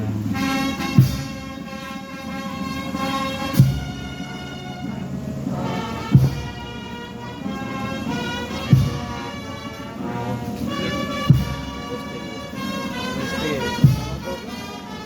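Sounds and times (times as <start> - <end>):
deep drum strokes: 0.0 - 14.6
held wind-instrument melody: 0.0 - 15.0.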